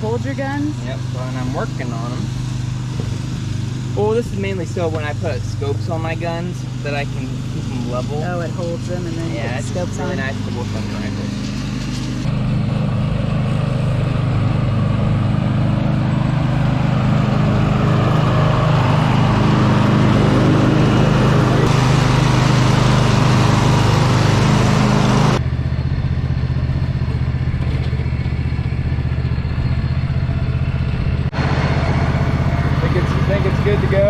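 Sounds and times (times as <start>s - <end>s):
engine running: 0.0s - 34.0s.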